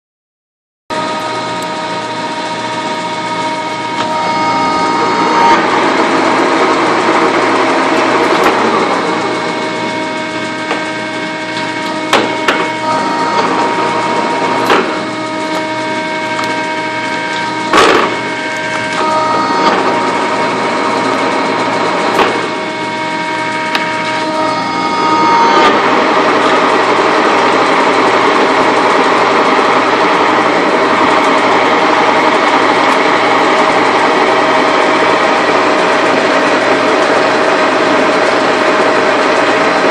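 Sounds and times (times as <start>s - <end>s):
lathe mechanical whir: 0.9s - 39.9s
whining gear tones: 0.9s - 39.9s.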